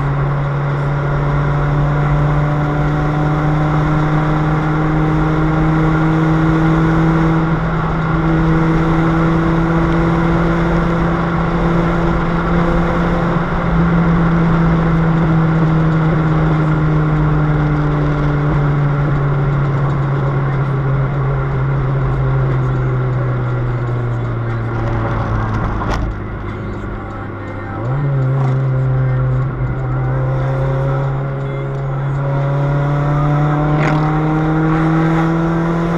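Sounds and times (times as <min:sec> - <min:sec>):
car engine droning through broken exhaust: 0:00.0 - 0:35.9.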